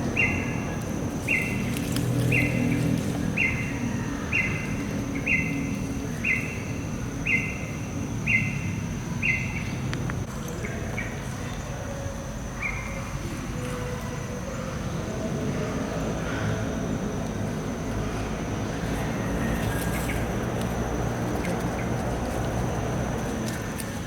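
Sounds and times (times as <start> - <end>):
high insect drone: 0.0 - 24.0
low outdoor rumble: 0.0 - 24.0.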